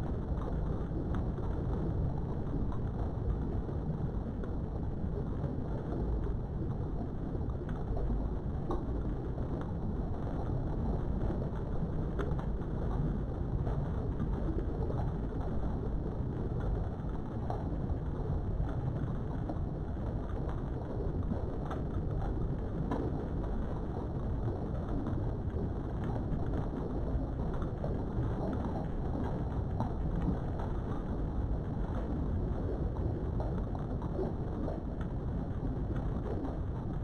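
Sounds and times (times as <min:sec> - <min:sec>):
low rumbling background noise: 0:00.0 - 0:37.0.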